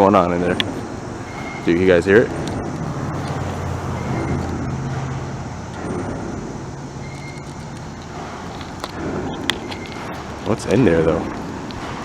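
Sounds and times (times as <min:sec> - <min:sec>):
heavy machinery humming: 0:00.0 - 0:12.0.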